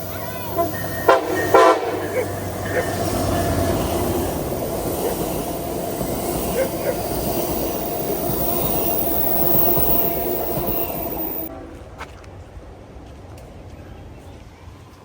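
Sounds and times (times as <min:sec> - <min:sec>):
train wheels rumbling on rails: 0:00.0 - 0:14.2.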